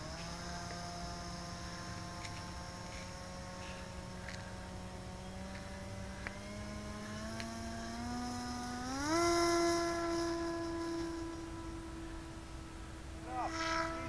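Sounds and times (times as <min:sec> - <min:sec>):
electric motor and propeller whining: 0:00.0 - 0:14.0.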